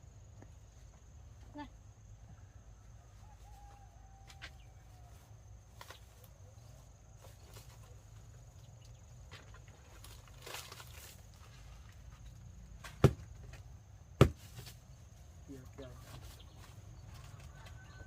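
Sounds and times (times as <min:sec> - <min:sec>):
faint high insect drone: 0:00.0 - 0:18.0.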